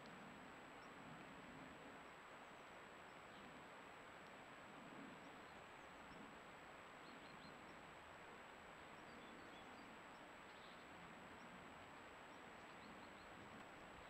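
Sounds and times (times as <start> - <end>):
faint outdoor hiss: 0.0 - 14.0
faint bird chirps: 2.0 - 8.0, 8.8 - 14.0.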